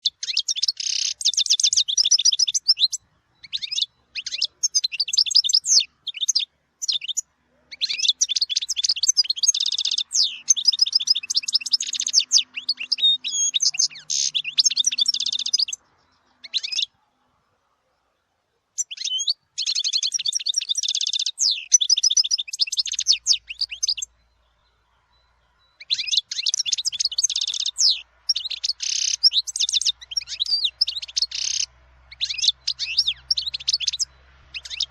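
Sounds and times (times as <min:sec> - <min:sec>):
goldfinch twittering song: 0:00.0 - 0:17.0, 0:18.7 - 0:34.9.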